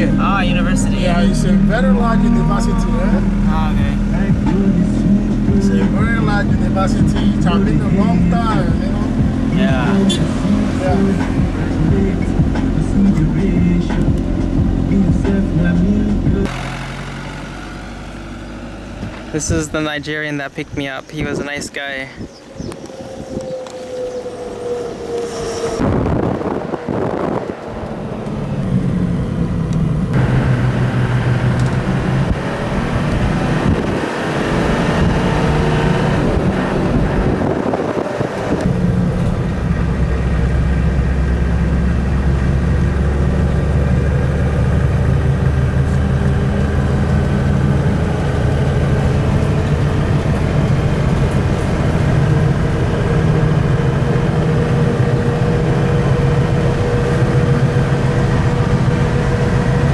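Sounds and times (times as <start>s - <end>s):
car engine running: 0.0s - 20.8s, 25.8s - 59.9s
road noise: 0.0s - 59.9s.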